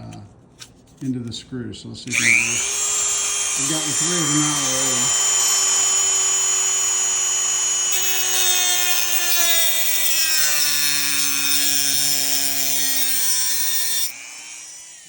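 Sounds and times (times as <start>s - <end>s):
rotary tool grinding metal: 2.1s - 15.0s.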